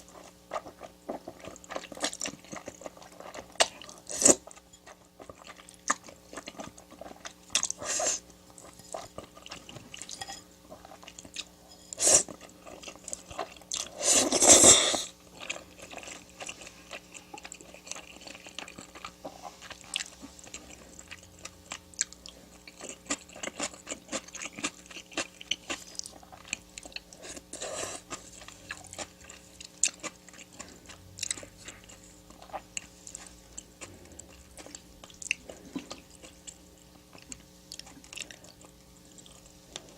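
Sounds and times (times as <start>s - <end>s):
chewing and biting food: 0.0s - 11.6s, 15.2s - 39.9s.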